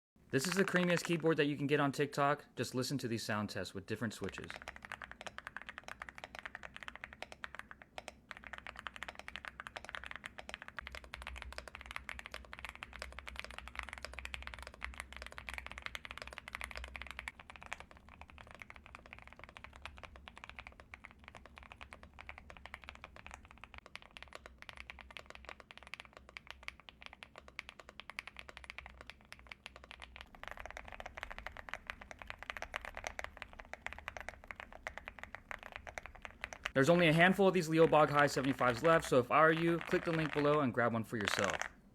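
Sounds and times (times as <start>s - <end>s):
mechanical keyboard typing: 0.4s - 1.4s, 4.1s - 41.7s.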